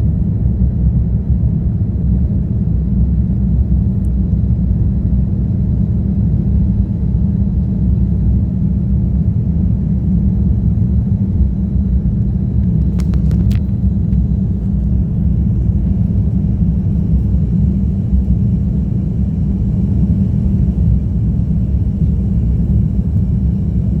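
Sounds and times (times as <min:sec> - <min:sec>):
jet airliner rumble: 0:00.0 - 0:24.0.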